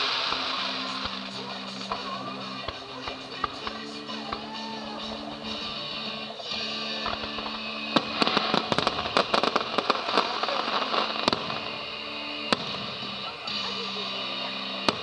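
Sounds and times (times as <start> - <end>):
background music held notes: 0.0 - 15.0
fireworks bangs and crackles: 0.0 - 15.0.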